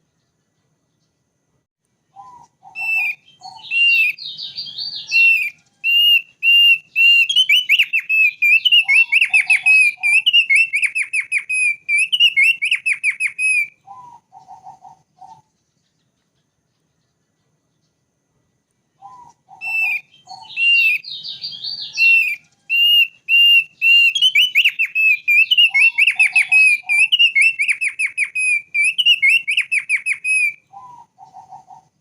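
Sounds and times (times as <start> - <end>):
lower bird call: 2.0 - 18.0, 18.9 - 32.0
bird whistling song: 2.1 - 18.0, 19.0 - 32.0.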